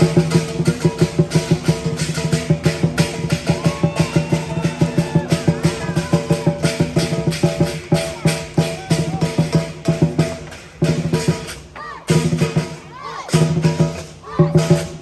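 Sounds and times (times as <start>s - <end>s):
fast drum beat: 0.0s - 15.0s
ringing metal percussion: 0.0s - 15.0s.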